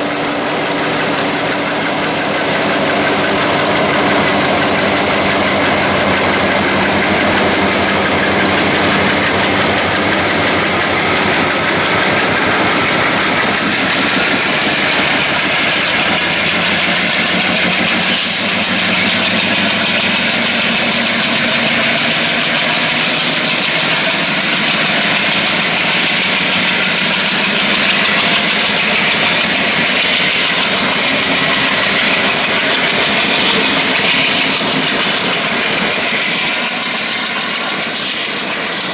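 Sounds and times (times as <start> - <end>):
diesel locomotive engine running: 0.0 - 38.9.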